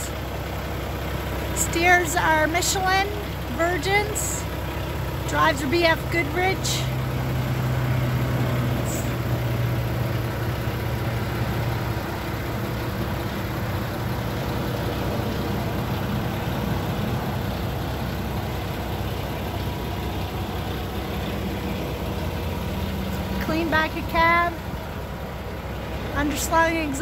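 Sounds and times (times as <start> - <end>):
truck diesel engine idling: 0.0 - 27.0.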